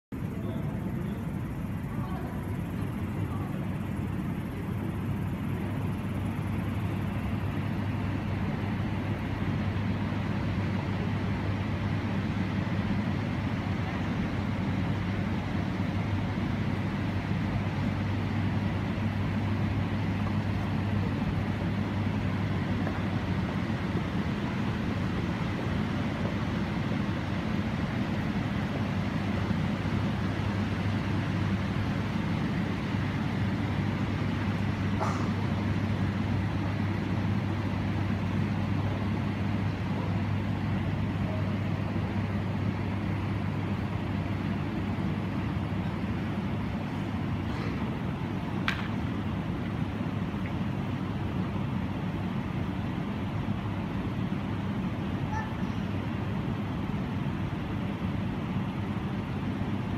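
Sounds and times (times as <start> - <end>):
low mechanical hum: 0.1 - 59.9.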